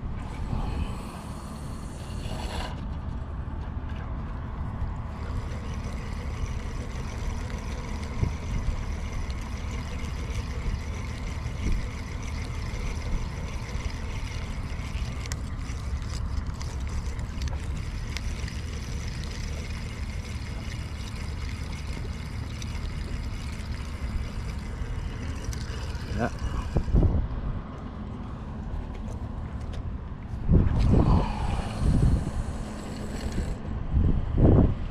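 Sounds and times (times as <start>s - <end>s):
wind rumbling on microphone: 0.0s - 20.0s, 20.8s - 34.9s.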